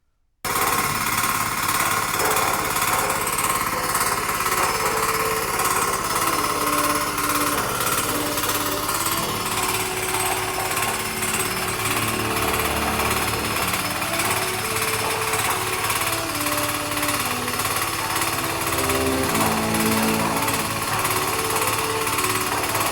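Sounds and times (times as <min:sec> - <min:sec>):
concrete mixer rattling: 0:00.5 - 0:22.9.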